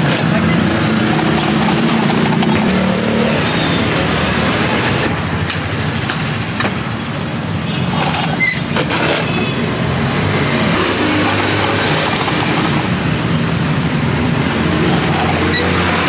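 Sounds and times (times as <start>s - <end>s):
street traffic hum: 0.0s - 16.0s.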